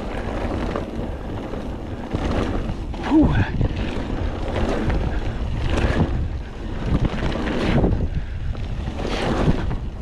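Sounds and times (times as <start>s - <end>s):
bike rattling over bumps: 0.0s - 10.0s
tyres rumbling on dirt: 0.0s - 10.0s
wind buffeting microphone: 0.0s - 10.0s.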